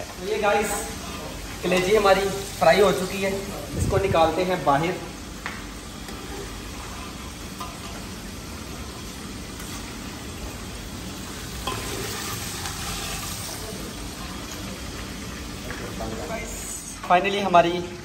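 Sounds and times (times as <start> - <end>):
liver sizzling in oil: 0.0 - 18.0.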